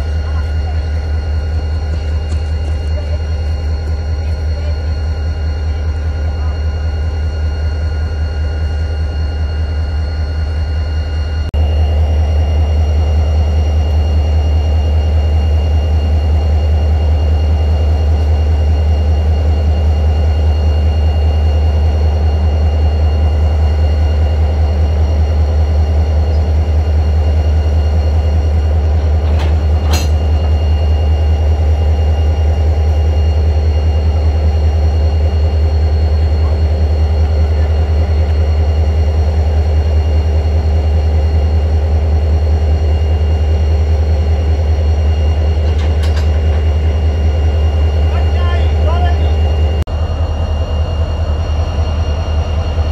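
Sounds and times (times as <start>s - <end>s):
diesel locomotive engines idling: 0.0s - 52.9s.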